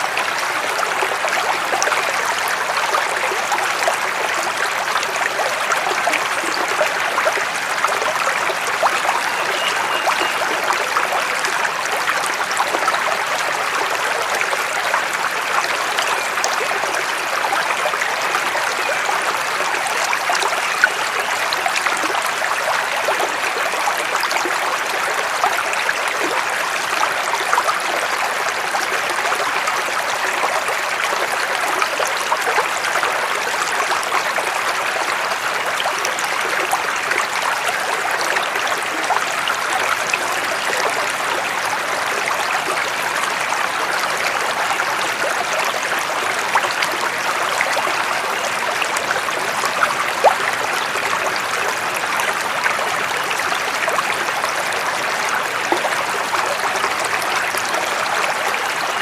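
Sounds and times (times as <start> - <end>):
running water flowing: 0.0 - 59.0.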